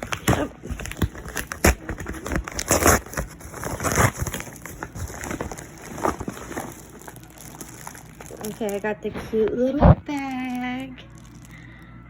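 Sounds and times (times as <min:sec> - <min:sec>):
packaging tearing and crinkling: 0:00.0 - 0:11.8.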